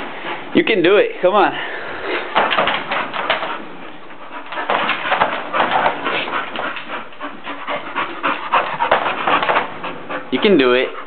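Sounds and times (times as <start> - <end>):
dog panting: 0.0 - 1.0, 2.1 - 11.0.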